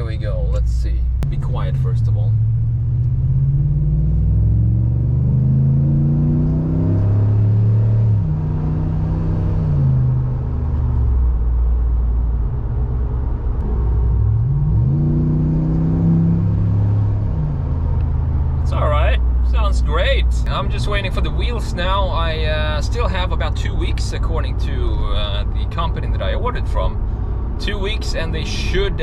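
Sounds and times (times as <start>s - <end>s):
pickup engine accelerating: 0.0s - 29.0s.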